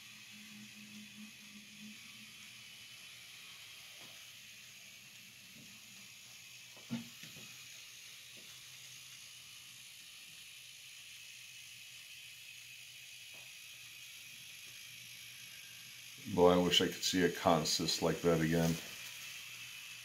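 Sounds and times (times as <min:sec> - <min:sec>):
model train hiss and hum: 0:00.0 - 0:20.0.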